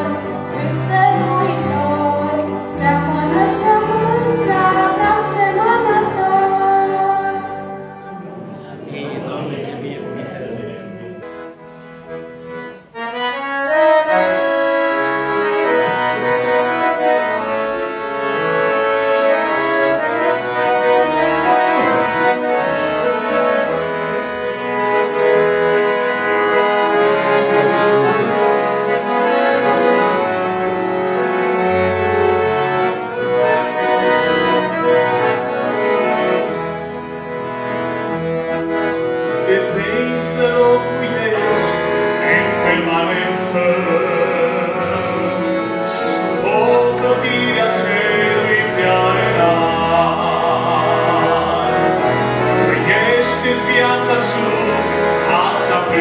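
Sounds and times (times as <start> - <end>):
accordion playing hymn chords: 0.0 - 56.0.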